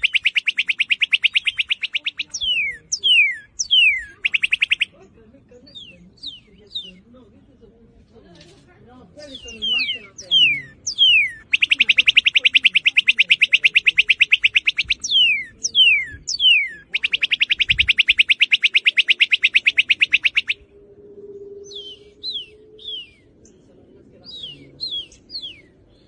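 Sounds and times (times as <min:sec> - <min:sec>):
bird singing trills and whistles: 0:00.0 - 0:07.1, 0:09.2 - 0:26.0.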